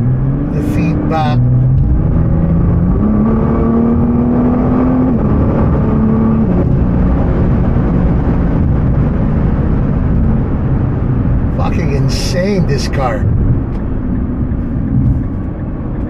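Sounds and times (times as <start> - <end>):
car engine accelerating: 0.0 - 16.0
tyre and road noise: 0.0 - 16.0.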